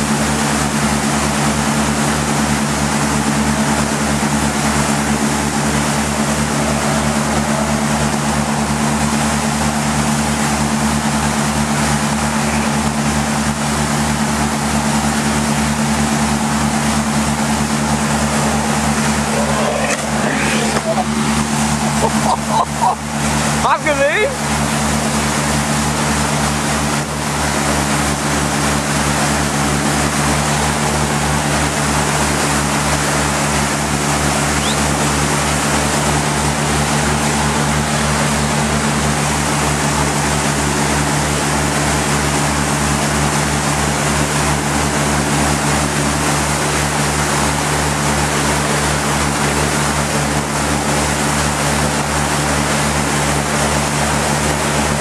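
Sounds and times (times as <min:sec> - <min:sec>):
motorboat engine drone: 0:00.0 - 0:55.0
water rushing in wake: 0:00.0 - 0:55.0.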